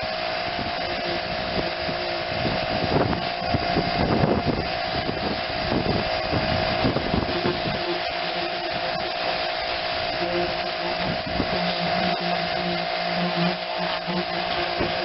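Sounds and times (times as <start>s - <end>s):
low hum: 0.0s - 15.0s
machine whine: 0.0s - 15.0s
pressure washer spray hissing: 0.0s - 15.0s.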